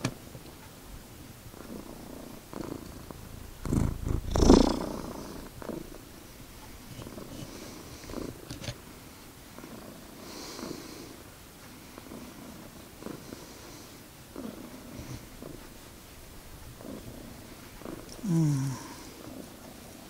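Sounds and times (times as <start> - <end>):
cat purring: 1.4 - 20.0.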